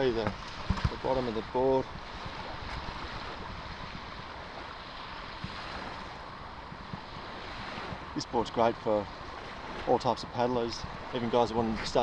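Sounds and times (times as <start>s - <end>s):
surf: 0.0s - 12.0s
wind buffeting microphone: 0.0s - 12.0s.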